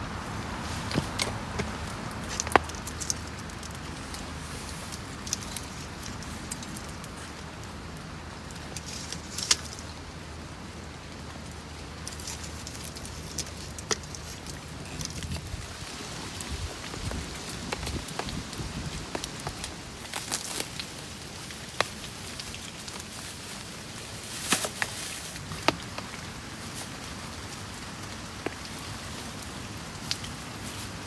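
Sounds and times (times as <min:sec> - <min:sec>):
rain pattering on a tent: 0:00.0 - 0:31.0.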